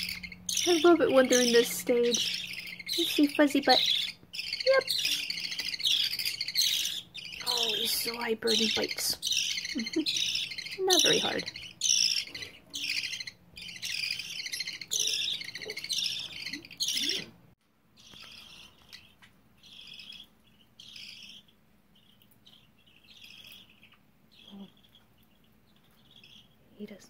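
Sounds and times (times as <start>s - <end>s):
baby budgerigars begging chirps: 0.0s - 27.0s.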